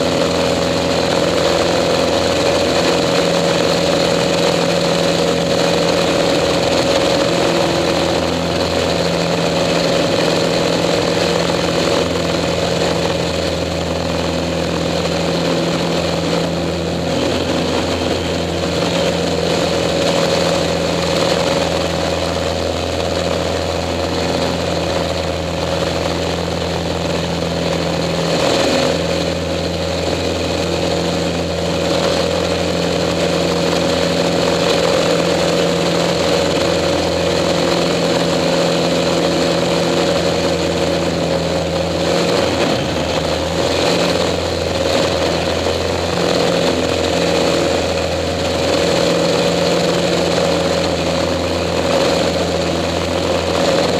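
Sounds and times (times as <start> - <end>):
propeller plane engine: 0.0 - 53.9
rushing wind: 0.0 - 53.9.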